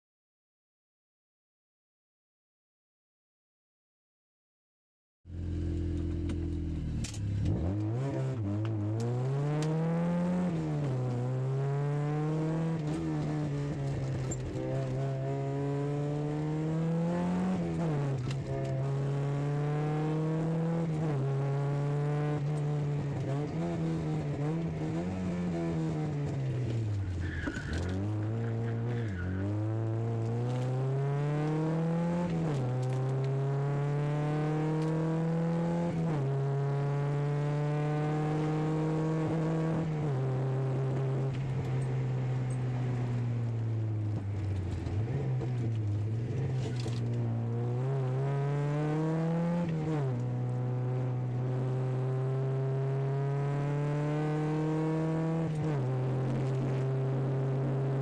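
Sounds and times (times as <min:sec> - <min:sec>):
car engine revving: 0:05.3 - 0:58.0.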